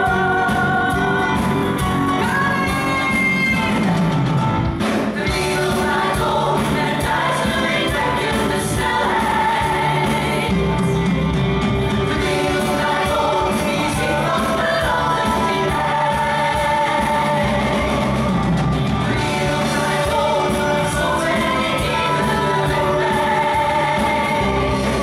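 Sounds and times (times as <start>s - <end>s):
ensemble singing together: 0.0s - 4.0s, 5.0s - 25.0s
live band with steady beat: 0.0s - 25.0s.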